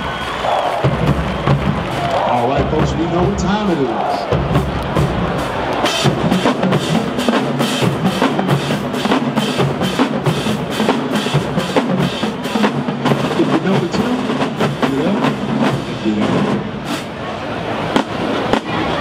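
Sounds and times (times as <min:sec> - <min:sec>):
bass drums: 0:00.0 - 0:16.8
snare drum rolls: 0:00.0 - 0:17.2
drumline beat: 0:00.0 - 0:19.0
marching band playing: 0:00.0 - 0:19.0.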